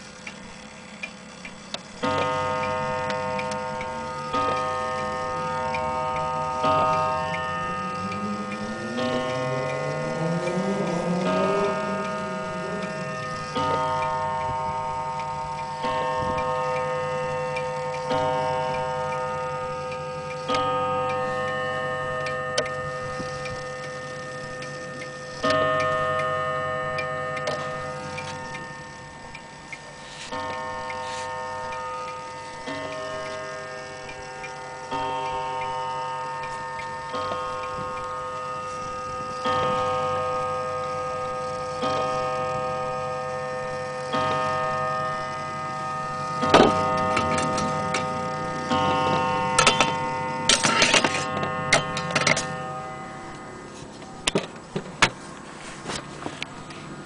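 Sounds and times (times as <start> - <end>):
clock ticking: 0.0 - 53.6
wall clock striking: 0.0 - 55.2.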